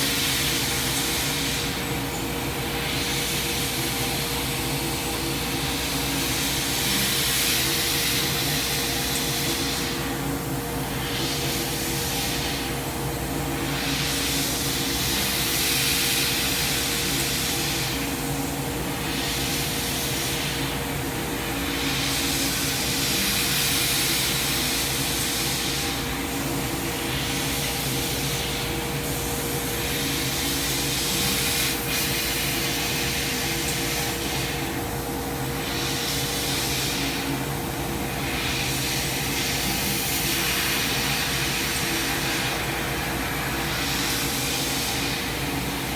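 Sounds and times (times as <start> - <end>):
constant machine hum: 0.0 - 45.9
laser cutter machine hiss: 0.0 - 45.9.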